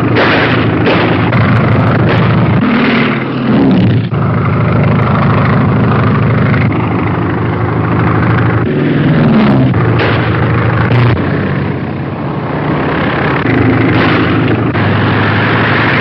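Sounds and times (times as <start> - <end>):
biplane engine and propeller drone: 0.0 - 16.0.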